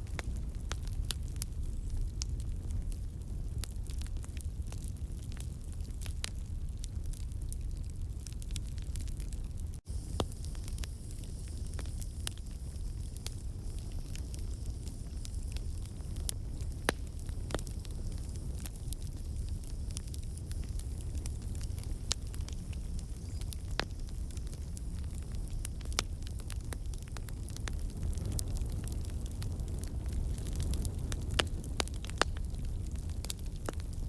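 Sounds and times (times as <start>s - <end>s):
campfire flames rumbling: 0.0s - 34.0s
fire crackling and popping: 0.0s - 34.0s.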